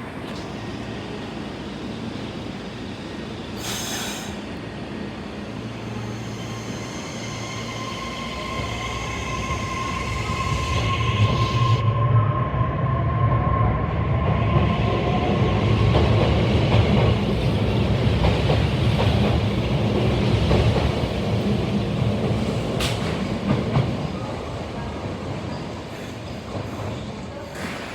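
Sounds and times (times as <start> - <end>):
train rumbling: 0.0 - 27.9.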